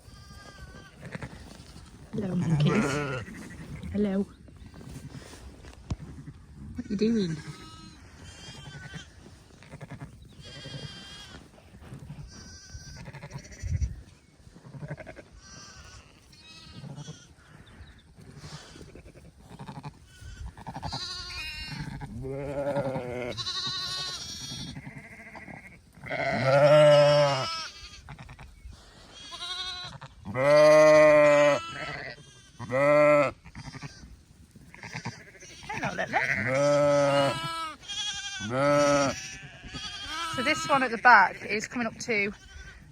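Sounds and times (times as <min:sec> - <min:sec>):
ewe deep bleats: 0:00.0 - 0:04.0, 0:07.0 - 0:11.4, 0:12.1 - 0:13.9, 0:14.6 - 0:17.6, 0:18.4 - 0:28.4, 0:29.1 - 0:34.0, 0:34.7 - 0:42.9
lambs bleating: 0:00.0 - 0:04.2, 0:06.9 - 0:17.6, 0:18.4 - 0:42.9.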